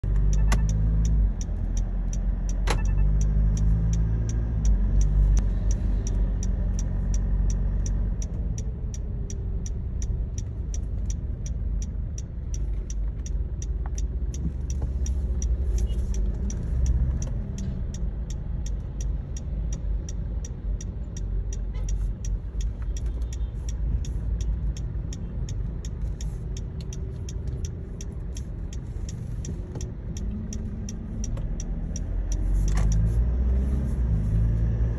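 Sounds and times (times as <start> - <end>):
engine and road rumble: 0.0 - 34.9
seatbelt warning beeps: 0.1 - 34.6.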